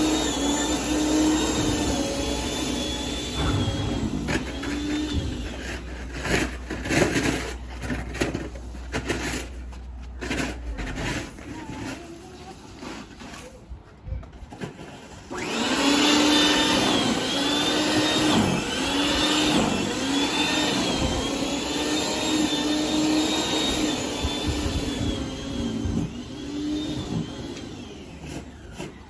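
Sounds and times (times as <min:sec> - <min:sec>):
snowblower whining: 0:00.0 - 0:12.9, 0:15.1 - 0:29.0.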